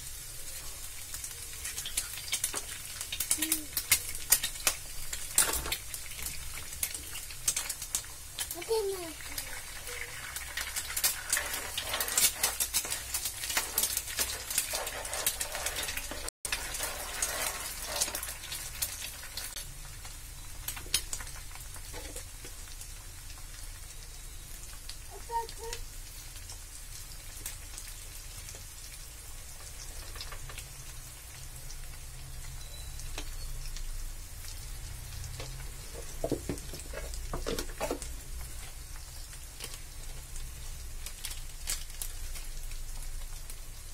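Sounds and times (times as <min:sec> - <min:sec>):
eggs sizzling in hot oil: 0:00.0 - 0:43.9.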